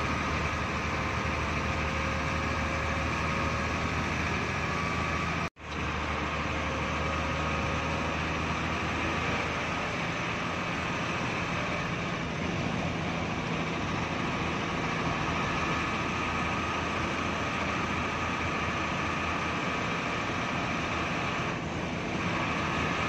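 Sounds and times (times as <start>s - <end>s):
bus diesel engine droning: 0.0s - 23.0s
road and wind noise: 0.0s - 23.0s.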